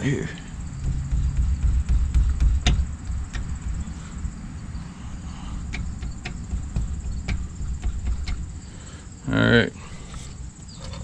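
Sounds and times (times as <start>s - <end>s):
low rumble: 0.0s - 9.2s
insects chirring: 0.0s - 11.0s.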